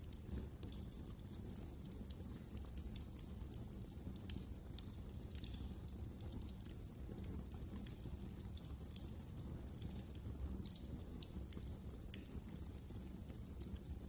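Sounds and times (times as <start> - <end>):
low rumble of flames: 0.0 - 14.0
wood fire crackling: 0.0 - 14.0.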